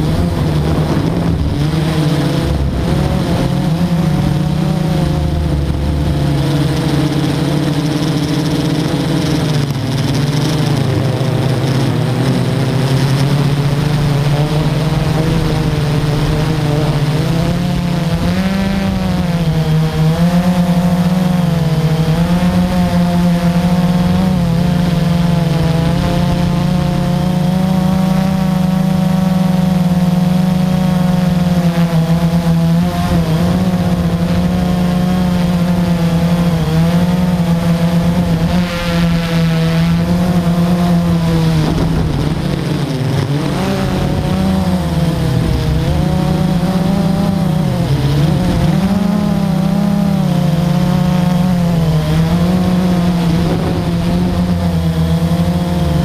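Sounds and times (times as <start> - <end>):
drone propellers humming: 0.0 - 56.0.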